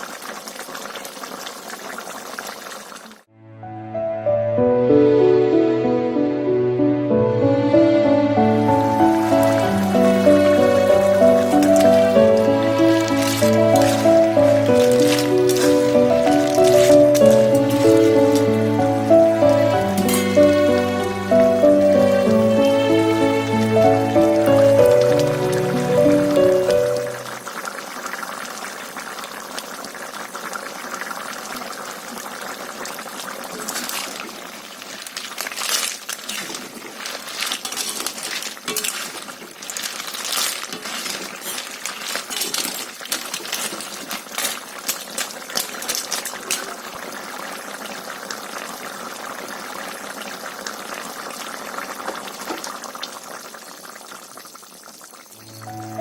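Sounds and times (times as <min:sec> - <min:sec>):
liquid boiling in a pot: 0:00.0 - 0:03.3, 0:08.6 - 0:56.0.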